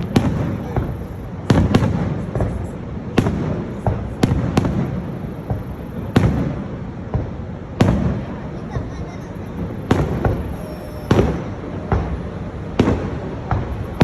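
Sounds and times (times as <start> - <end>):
fireworks bangs echoing: 0.0 - 14.0.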